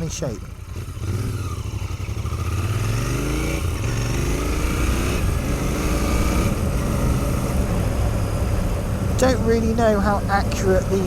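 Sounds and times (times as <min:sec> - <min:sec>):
motorcycle engine shifting gears: 0:00.0 - 0:11.0.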